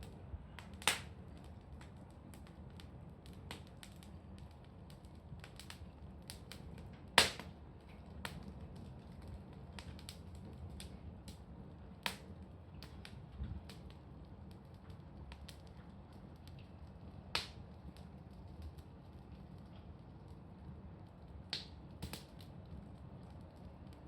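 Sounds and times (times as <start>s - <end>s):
bonfire crackling and popping: 0.0s - 24.0s
low steady rumble: 0.0s - 24.0s.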